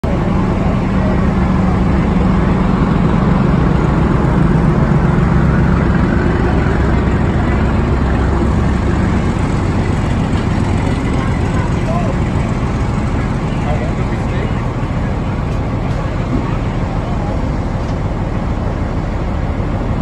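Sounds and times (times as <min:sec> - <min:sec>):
freight train passing: 0:00.0 - 0:20.0
locomotive engine drone: 0:00.0 - 0:20.0.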